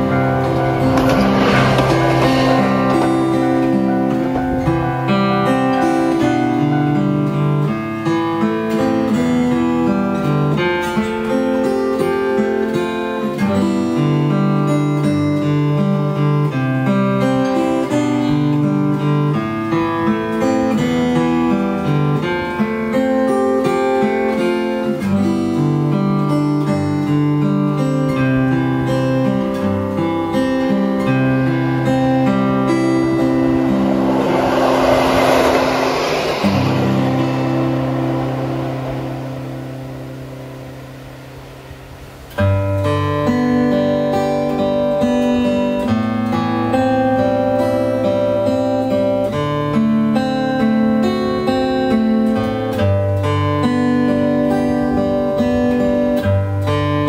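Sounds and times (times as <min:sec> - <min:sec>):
fingerpicked acoustic guitar: 0:00.0 - 0:34.5, 0:36.0 - 0:57.0.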